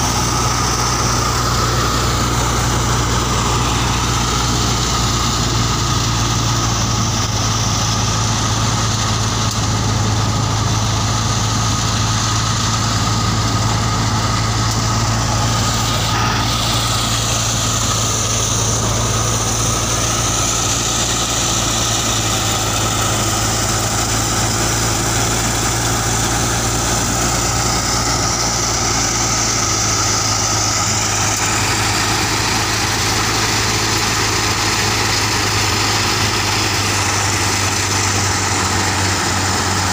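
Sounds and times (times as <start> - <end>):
tractor and thresher droning: 0.0 - 39.9.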